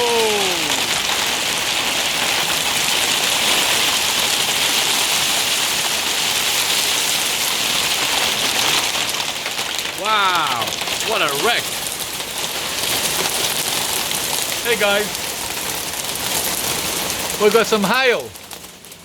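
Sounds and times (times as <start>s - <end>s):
hail falling hard: 0.0s - 19.0s.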